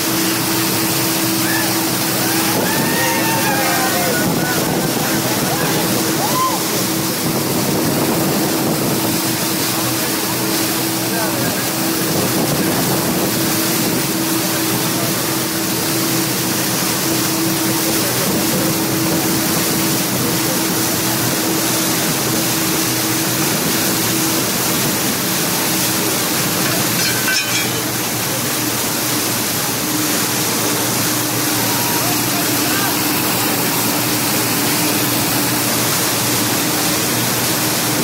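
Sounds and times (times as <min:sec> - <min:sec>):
floodwater rushing and splashing: 0:00.0 - 0:38.0.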